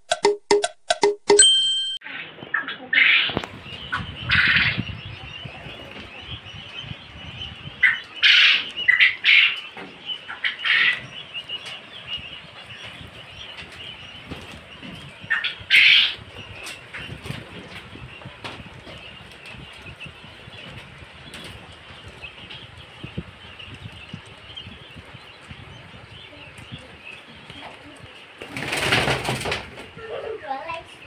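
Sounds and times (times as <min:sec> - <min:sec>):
young quail chirping: 0:02.1 - 0:31.0.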